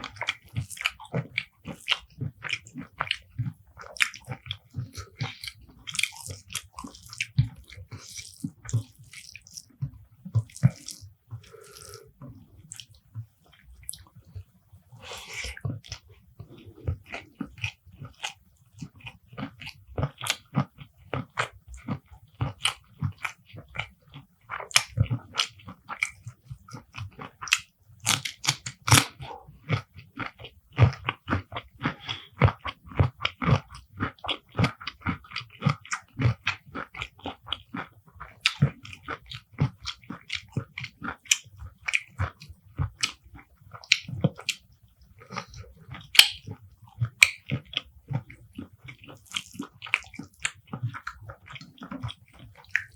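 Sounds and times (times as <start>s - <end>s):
person chewing and crunching: 0.0s - 52.9s.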